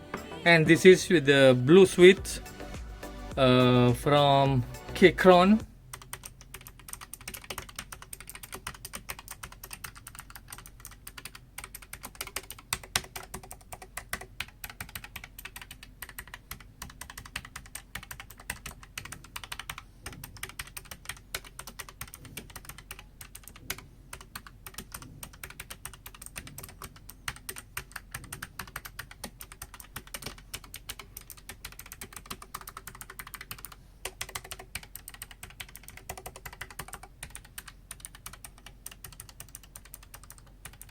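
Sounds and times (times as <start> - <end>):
mechanical keyboard typing clicks: 6.0 - 40.9.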